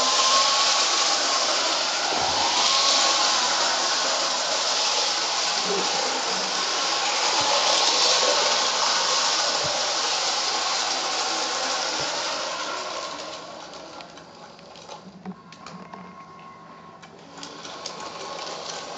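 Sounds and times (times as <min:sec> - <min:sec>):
toy train motor whirring: 0:00.0 - 0:18.9.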